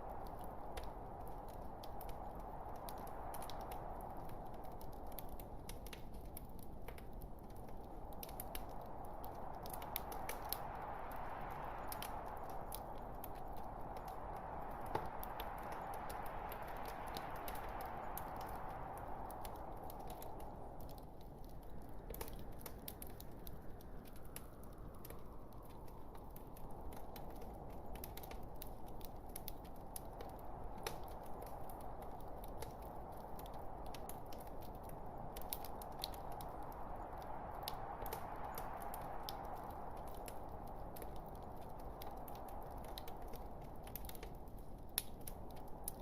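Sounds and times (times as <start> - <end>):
hiss of flames: 0.0 - 46.0
log fire crackling and popping: 0.0 - 46.0.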